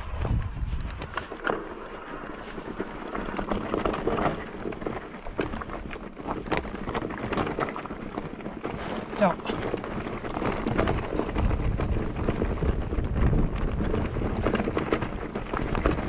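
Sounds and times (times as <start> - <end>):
bike rattling over rocky trail: 0.0 - 16.0
wind buffeting microphone: 0.0 - 16.0.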